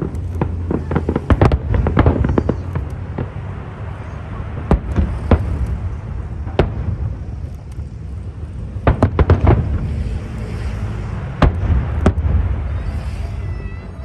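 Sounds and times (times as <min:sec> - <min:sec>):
continuous low rumble: 0:00.0 - 0:14.0
fireworks bangs: 0:00.0 - 0:14.0.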